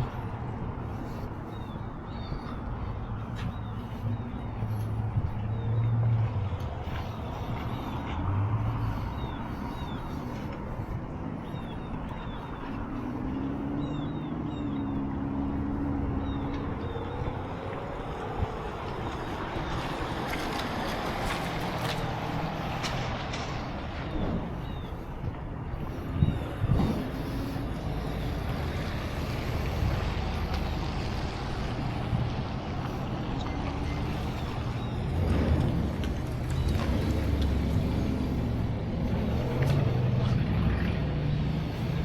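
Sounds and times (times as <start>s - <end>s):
outdoor traffic rumble: 0.0s - 42.0s
vehicles passing: 0.0s - 42.0s.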